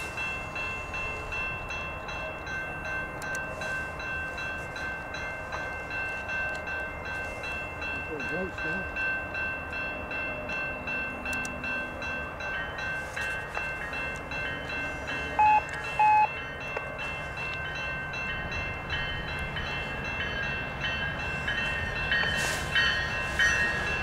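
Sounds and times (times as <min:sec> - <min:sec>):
low rumble of train: 0:00.0 - 0:24.0
level crossing bell ringing: 0:00.1 - 0:24.0.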